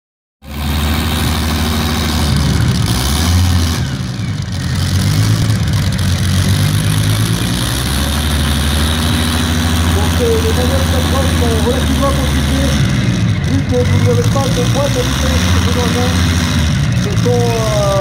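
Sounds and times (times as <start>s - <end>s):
aero engine idling: 0.4s - 18.0s.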